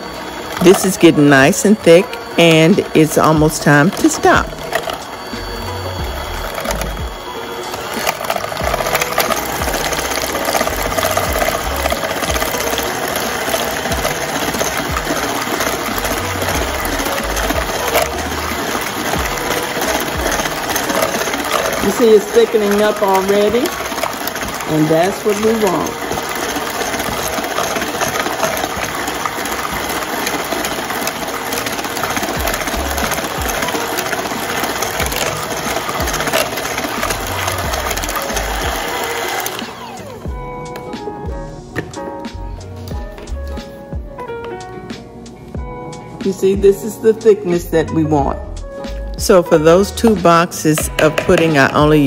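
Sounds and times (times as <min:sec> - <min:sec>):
electric hand mixer running: 0:00.0 - 0:44.6, 0:45.2 - 0:52.0.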